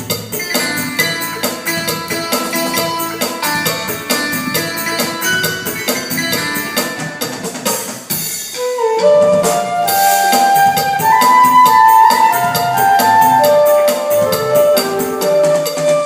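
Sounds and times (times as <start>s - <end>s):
keyboard lead melody: 0.0s - 7.7s, 8.5s - 16.0s
latin percussion pattern: 0.0s - 16.0s.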